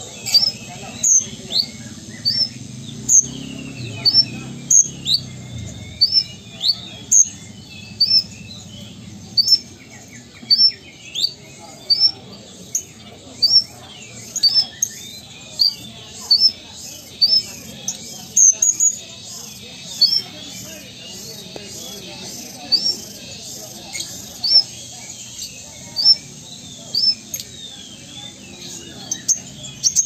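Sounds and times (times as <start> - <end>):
bird chirping high and sharp: 0.0 - 30.0.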